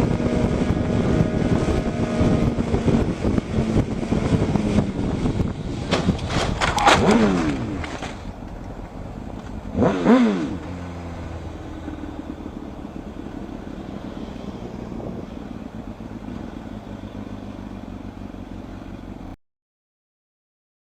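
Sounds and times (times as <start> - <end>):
low engine hum: 0.0 - 19.4
motorcycle passing at speed: 0.0 - 19.4
road noise: 0.0 - 19.4.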